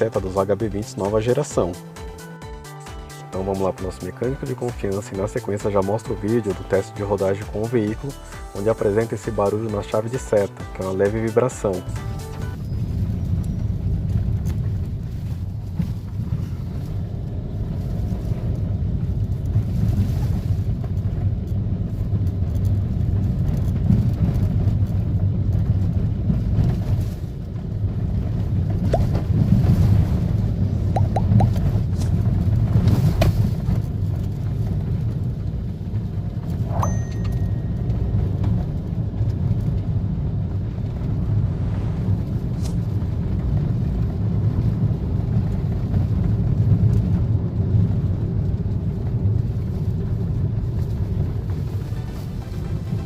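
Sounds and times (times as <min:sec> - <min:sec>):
road and drivetrain rumble: 0:00.0 - 0:53.0.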